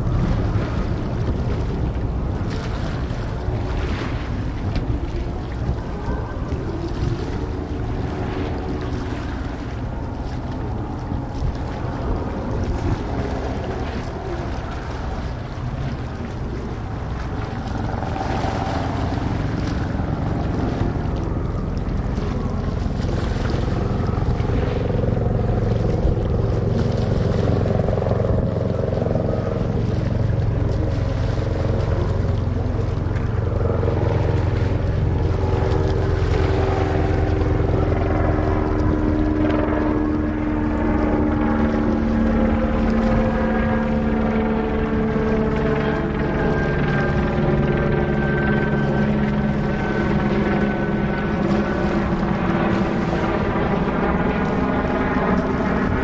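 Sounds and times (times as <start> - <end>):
boat engine humming: 0.0 - 56.0
wind on microphone: 0.0 - 56.0.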